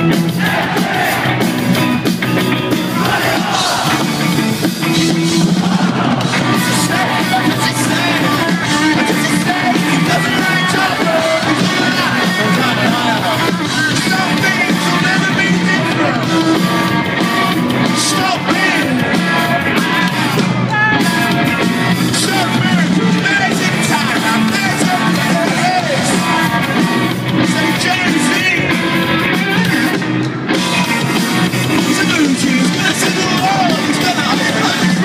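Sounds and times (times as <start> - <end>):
rock band playing live: 0.0 - 35.0
person singing lead vocal: 5.4 - 29.9, 31.4 - 35.0.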